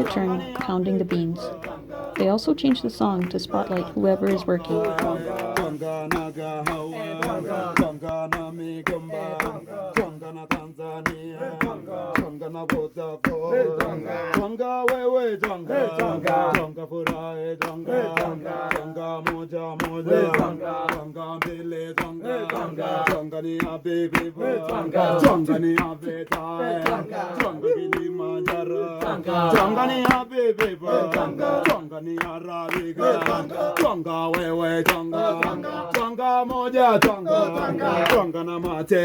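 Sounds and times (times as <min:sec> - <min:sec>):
group singing and chanting: 0:00.0 - 0:39.0.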